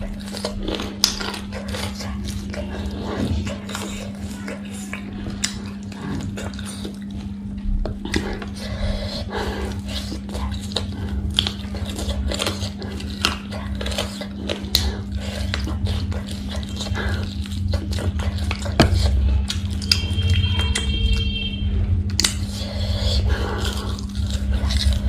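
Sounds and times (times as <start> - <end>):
low hum: 0.0 - 25.0
wet chewing: 0.0 - 25.0.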